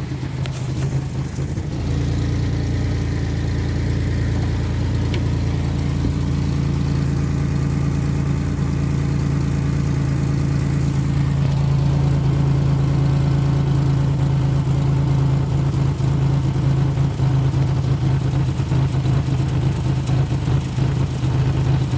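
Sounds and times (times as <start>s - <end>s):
pickup engine idling roughly: 0.0s - 21.9s.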